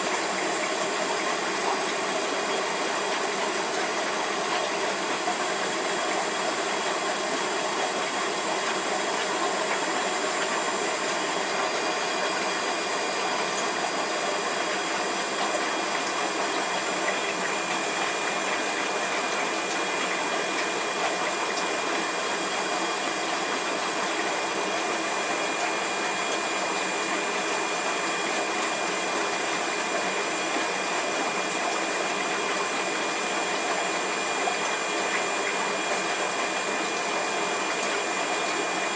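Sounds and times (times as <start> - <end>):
aquarium filter water rushing: 0.0 - 38.9.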